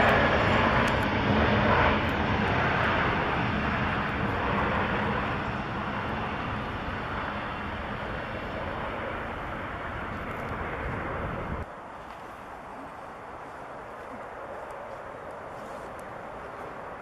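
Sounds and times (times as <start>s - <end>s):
jet engines rolling out on runway: 0.0s - 17.0s.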